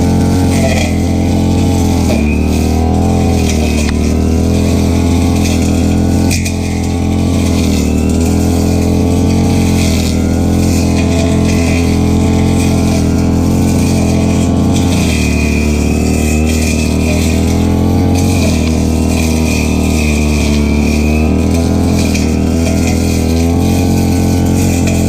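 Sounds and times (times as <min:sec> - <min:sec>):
brush cutter engine running: 0:00.0 - 0:25.0.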